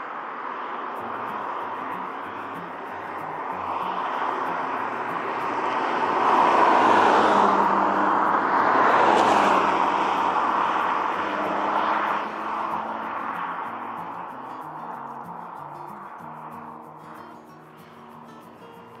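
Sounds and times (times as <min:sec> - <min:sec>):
car driving past: 0:00.1 - 0:16.6.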